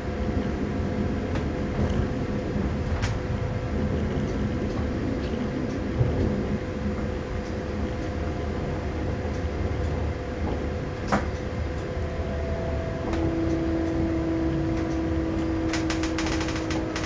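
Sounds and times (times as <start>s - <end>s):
lower hum: 0.0s - 17.0s
steady hum: 0.0s - 17.0s
train rumbling on track: 0.0s - 17.0s.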